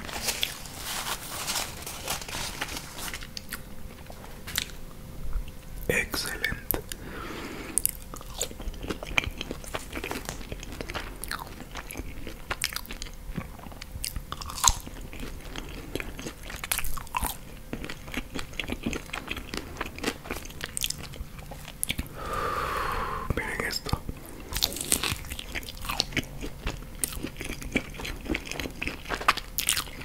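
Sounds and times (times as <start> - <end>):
chewing crispy fries: 0.0 - 7.0, 7.7 - 22.1, 23.4 - 30.0.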